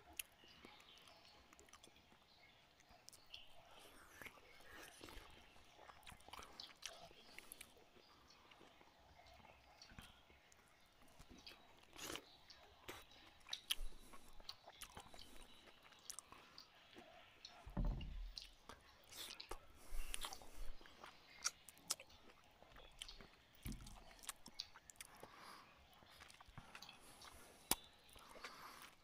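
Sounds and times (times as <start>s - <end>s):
person chewing: 0.1s - 2.2s, 2.8s - 17.6s, 18.3s - 29.0s.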